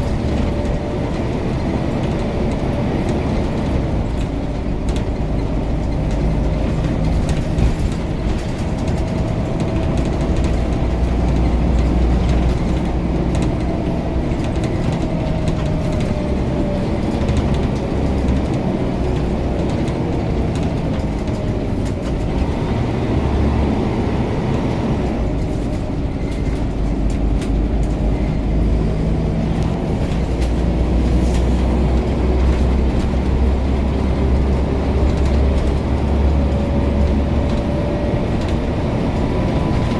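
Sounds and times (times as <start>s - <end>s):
bus engine rumble with whine: 0.0s - 39.9s.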